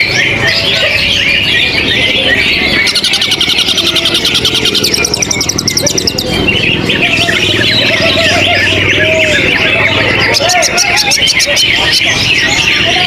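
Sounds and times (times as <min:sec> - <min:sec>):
songbirds chirping and warbling: 0:00.0 - 0:13.0.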